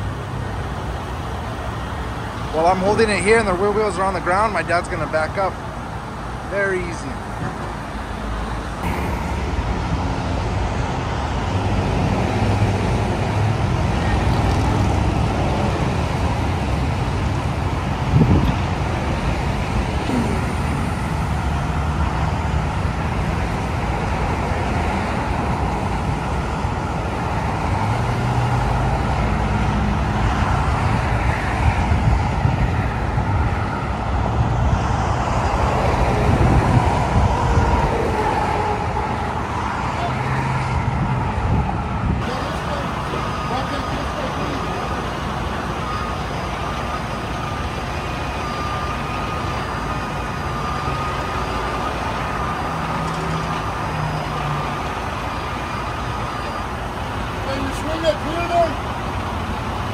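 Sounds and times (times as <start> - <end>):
diesel truck engines running: 0.0 - 59.9
freeway traffic noise: 0.0 - 59.9.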